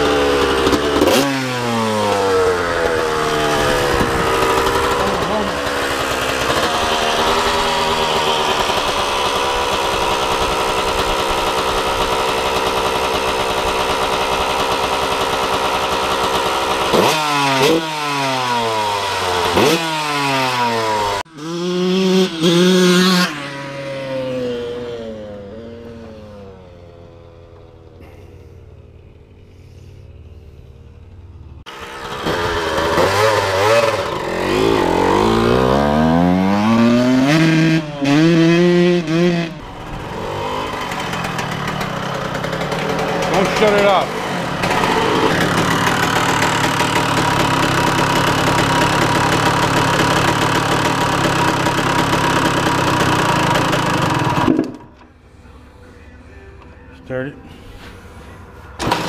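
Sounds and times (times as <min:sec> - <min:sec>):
dirt bike engine revving: 0:00.0 - 0:30.0, 0:31.0 - 0:55.0, 0:58.7 - 0:59.0.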